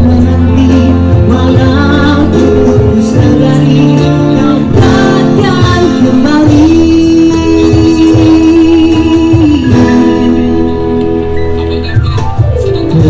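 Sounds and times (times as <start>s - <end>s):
acoustic guitar: 0.0s - 13.0s
electronic keyboard: 0.0s - 13.0s
person singing: 0.0s - 13.0s.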